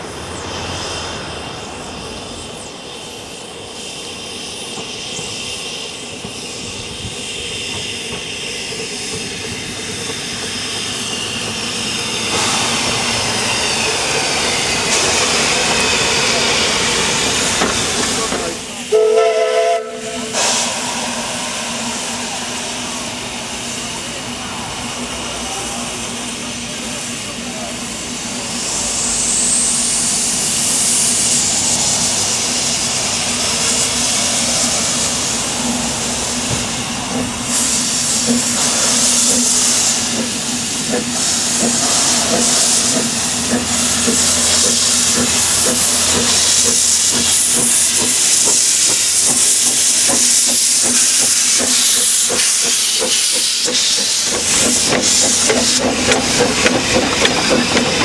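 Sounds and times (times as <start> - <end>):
steam locomotive hissing steam: 0.0 - 58.0
rhythmic locomotive exhaust beat: 1.2 - 58.0.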